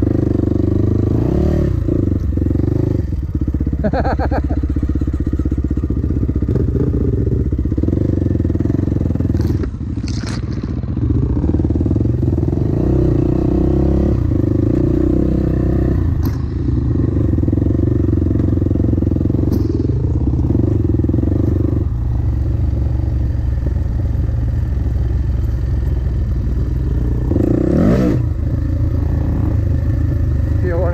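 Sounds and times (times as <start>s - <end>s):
dirt bike engine: 0.0s - 30.9s.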